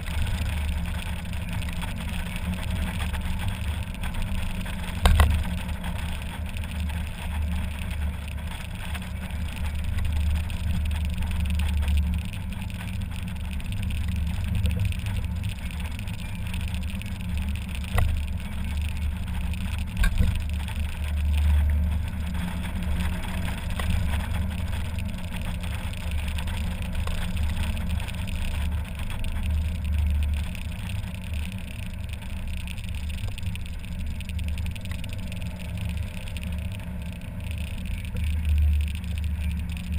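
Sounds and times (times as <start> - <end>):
low rumble: 0.0 - 39.9
road noise: 0.0 - 39.9.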